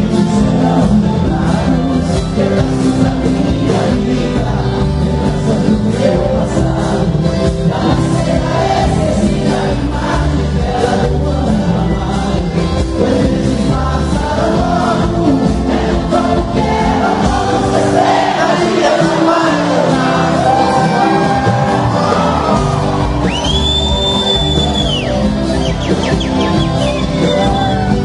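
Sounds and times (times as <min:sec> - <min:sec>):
man singing with band: 0:00.0 - 0:23.2.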